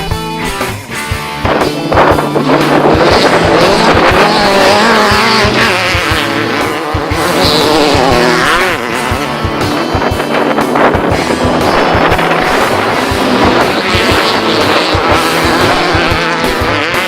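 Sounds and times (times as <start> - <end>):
rock music with drumbeat: 0.0 - 17.0
race vehicle engine revving: 0.5 - 17.0.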